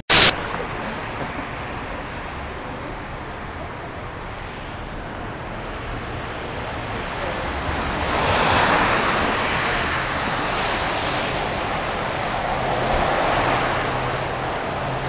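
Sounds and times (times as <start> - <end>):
tyres hissing on wet road: 0.0 - 15.0
low engine rumble: 0.1 - 15.0.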